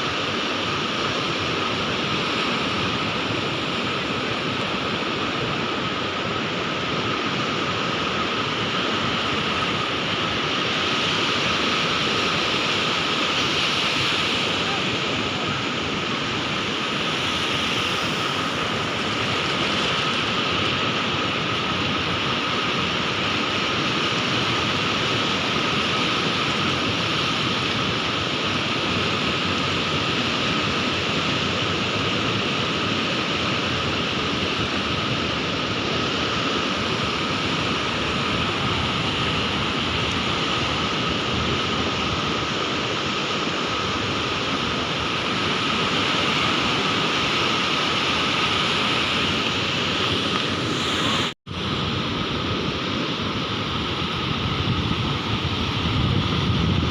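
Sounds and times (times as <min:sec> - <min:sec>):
sea waves washing: 0:00.0 - 0:56.9.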